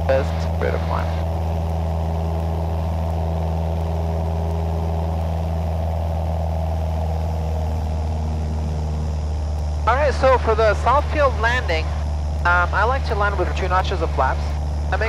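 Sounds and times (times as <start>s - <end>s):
small plane engine droning: 0.0s - 15.0s.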